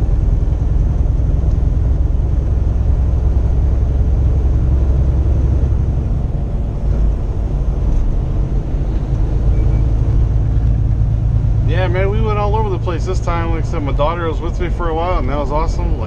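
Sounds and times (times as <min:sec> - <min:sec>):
truck engine and tyre drone: 0:00.0 - 0:16.0.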